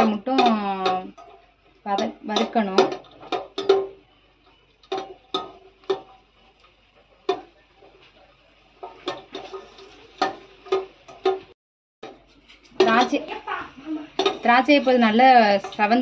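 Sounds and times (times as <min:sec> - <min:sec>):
metal spatula tapping pan: 0:00.0 - 0:08.1, 0:08.8 - 0:16.0
faint sizzle: 0:00.0 - 0:16.0.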